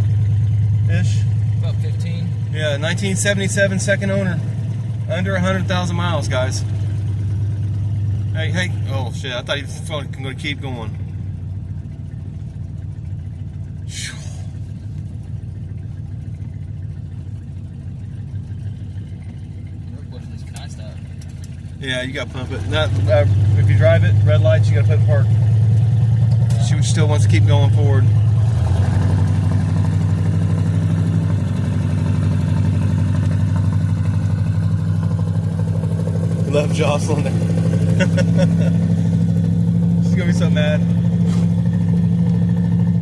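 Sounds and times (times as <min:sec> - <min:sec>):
car engine running: 0:00.0 - 0:43.0.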